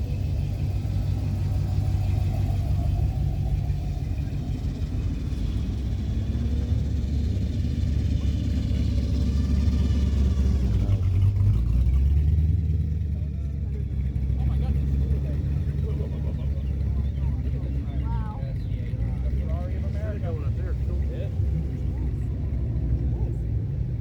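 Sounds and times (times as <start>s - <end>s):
car engine rumbling at low revs: 0.0s - 24.0s.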